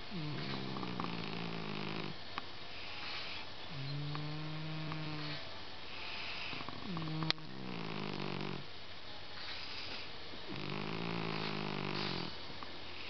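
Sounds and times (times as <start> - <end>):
cat snoring: 0.1 - 8.7, 9.6 - 13.0.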